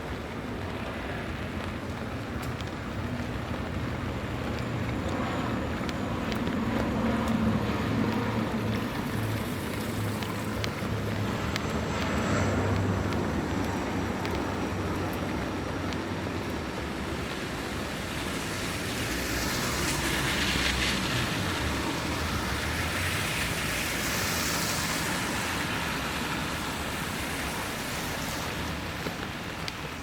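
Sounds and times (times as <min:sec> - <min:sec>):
low traffic rumble: 0:00.0 - 0:30.0
rain and tyres hissing: 0:00.0 - 0:30.0.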